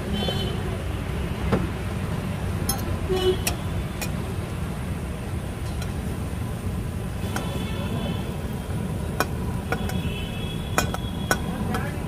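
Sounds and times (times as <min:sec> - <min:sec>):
street traffic rumble: 0:00.0 - 0:12.0
water boiling in a wok: 0:00.0 - 0:12.0.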